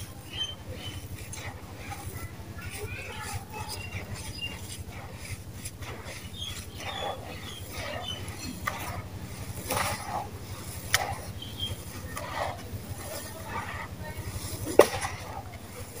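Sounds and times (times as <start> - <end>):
dry cement crumbling: 0.0 - 16.0
steady low hum: 0.0 - 16.0.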